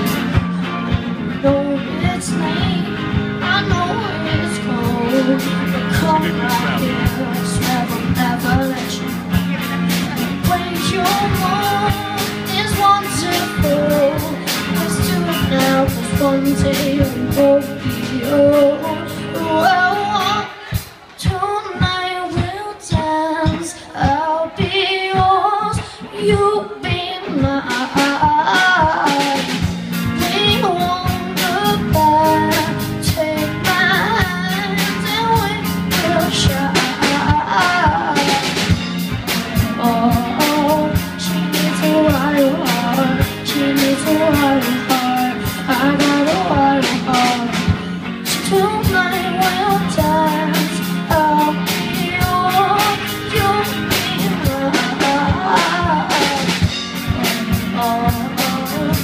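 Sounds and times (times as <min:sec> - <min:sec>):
boy singing: 0:00.0 - 0:59.0
drum kit: 0:00.0 - 0:59.0
electric guitar: 0:00.0 - 0:59.0.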